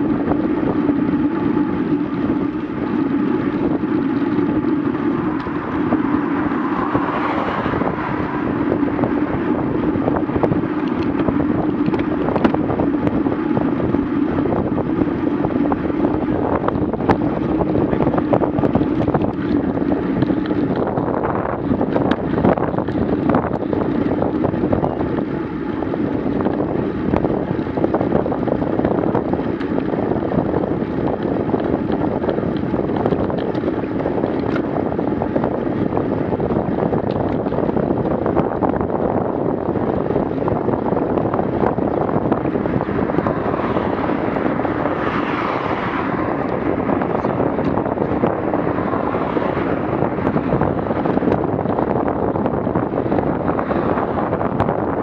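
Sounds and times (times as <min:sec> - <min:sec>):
bicycle tyre and road rumble: 0:00.0 - 0:55.0
wind buffeting microphone: 0:00.0 - 0:55.0.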